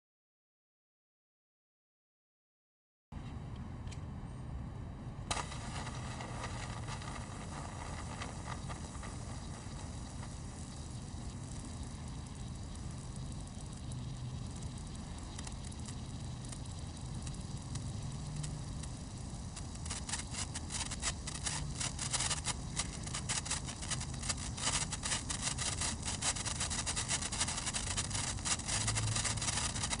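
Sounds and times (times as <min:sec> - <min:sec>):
sparkler fizzing and crackling: 0:05.3 - 0:30.0.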